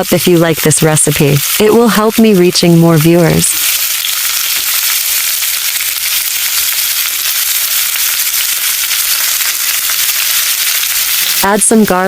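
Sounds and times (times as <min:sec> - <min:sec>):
prawns sizzling in hot oil: 0:00.0 - 0:12.0.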